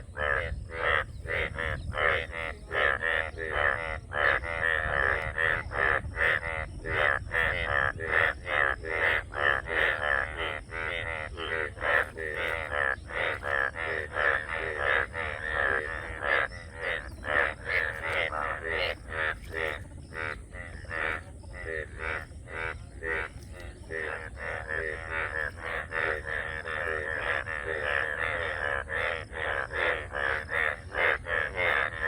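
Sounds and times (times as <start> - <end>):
frogs croaking: 0.0 - 32.0.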